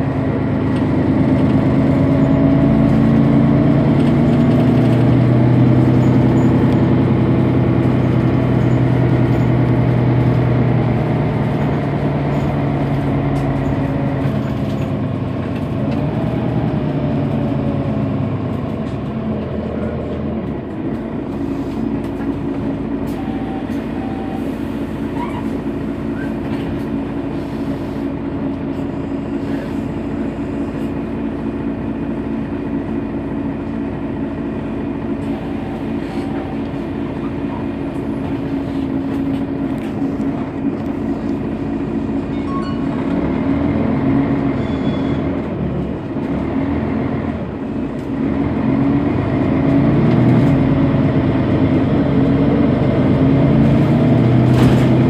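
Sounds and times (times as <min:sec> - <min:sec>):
bus engine idling: 0:00.0 - 0:55.0.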